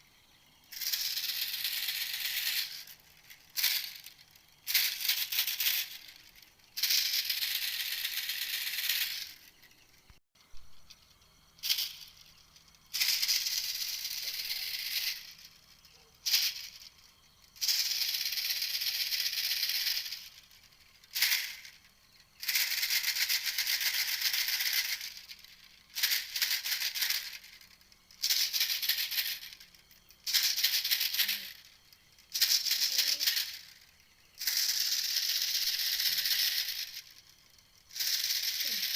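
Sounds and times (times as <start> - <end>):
lure call rasp and rattle: 0.0 - 10.1, 10.7 - 38.9.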